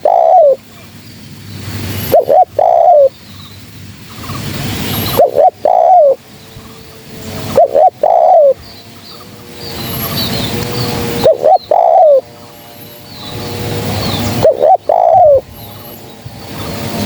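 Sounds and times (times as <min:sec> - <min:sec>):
dove cooing: 0:00.0 - 0:00.9, 0:01.7 - 0:03.2, 0:04.1 - 0:17.0
small birds chirping: 0:00.0 - 0:17.0.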